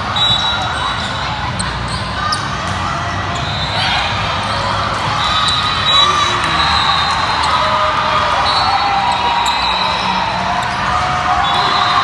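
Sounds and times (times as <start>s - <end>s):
crowd chatter: 0.0s - 12.0s
shoe squeals: 0.0s - 12.0s.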